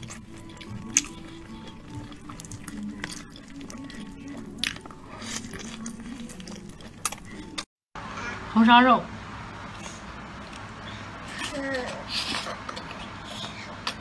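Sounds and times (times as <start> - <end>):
person chewing food: 0.0 - 7.7, 9.7 - 14.0.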